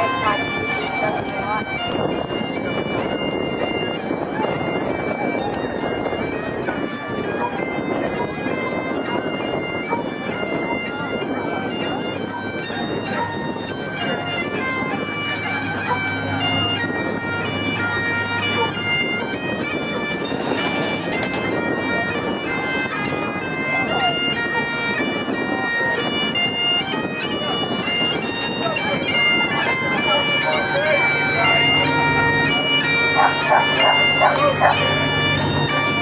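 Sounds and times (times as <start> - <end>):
bagpipes playing: 0.0 - 36.0
crowd chatter: 0.0 - 36.0.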